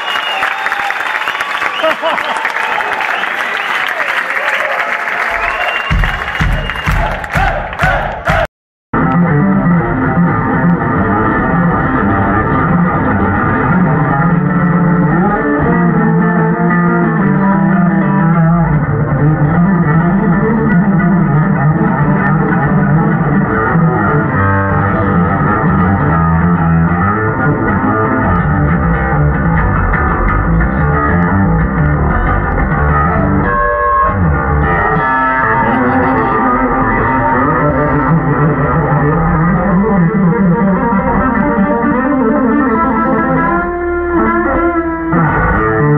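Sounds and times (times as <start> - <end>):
electric bass guitar through amplifier: 9.0 - 45.9.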